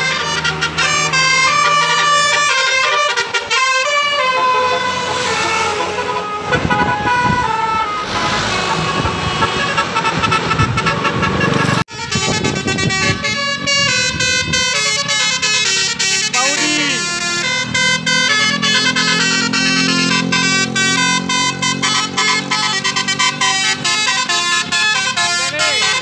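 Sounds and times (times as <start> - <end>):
bus engine and tyre noise: 0.0 - 26.0
multi-tone air horn melody: 0.0 - 26.0.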